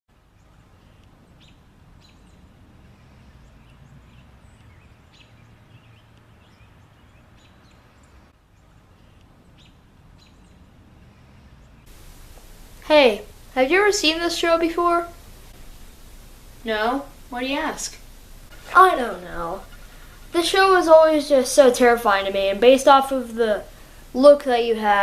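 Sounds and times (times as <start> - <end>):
faint outdoor background noise: 0.1 - 25.0.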